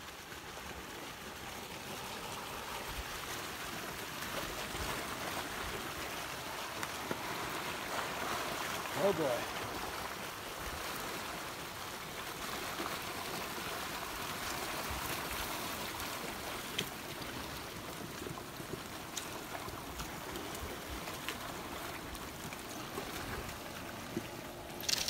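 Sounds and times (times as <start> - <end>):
muddy water rushing with debris: 0.0 - 25.0.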